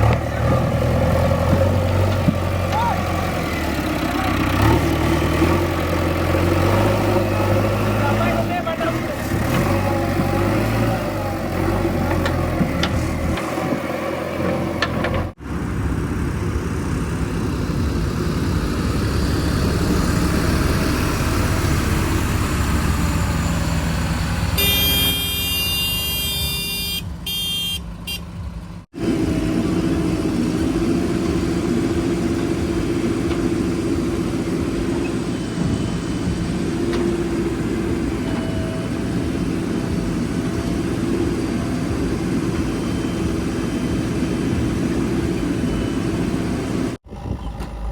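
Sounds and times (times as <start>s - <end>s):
diesel engines running: 0.0s - 47.9s.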